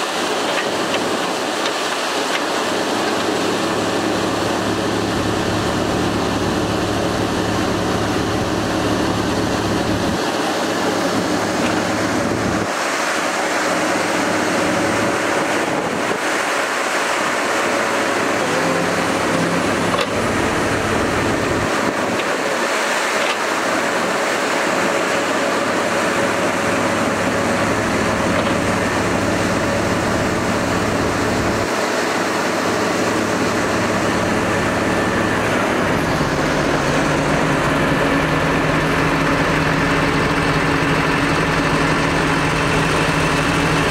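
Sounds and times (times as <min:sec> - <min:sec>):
diesel engine running: 0:00.0 - 0:43.9
faint hydraulic whine: 0:00.4 - 0:43.9.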